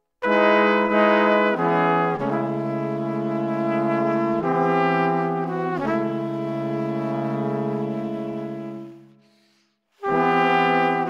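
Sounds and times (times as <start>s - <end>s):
brass-like sustained chords: 0.2s - 11.0s.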